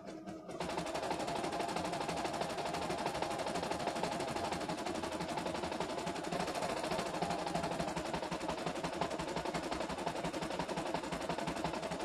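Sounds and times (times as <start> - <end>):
embroidery machine needle chatter: 0.5 - 12.0.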